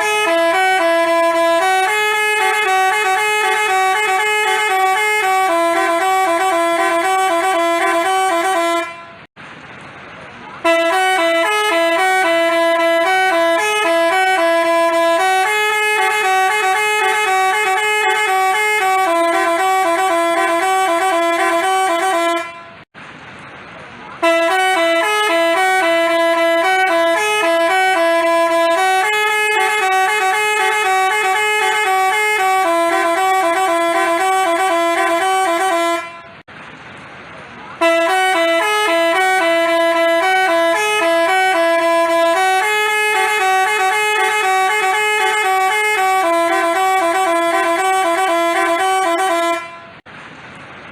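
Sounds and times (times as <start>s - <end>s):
bus horn playing a tune: 0.0s - 9.3s, 10.6s - 22.9s, 24.2s - 36.5s, 37.8s - 50.1s.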